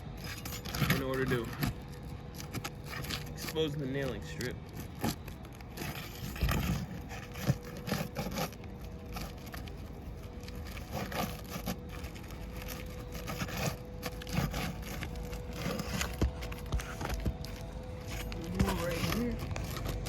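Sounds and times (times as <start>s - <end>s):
pry tool scraping under shingles: 0.0s - 20.0s.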